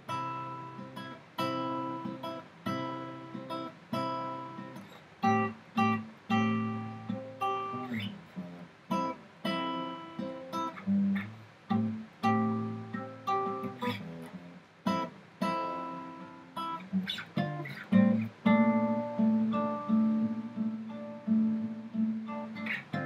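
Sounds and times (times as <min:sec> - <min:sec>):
acoustic guitar strummed chords: 0:00.0 - 0:23.0.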